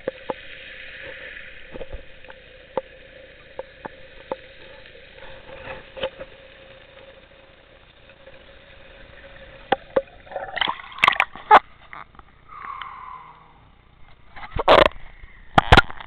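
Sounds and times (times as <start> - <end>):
faint steady hum: 0.0 - 16.0
muffled underwater ambience: 0.0 - 16.0
water splashing and sloshing: 0.0 - 16.0.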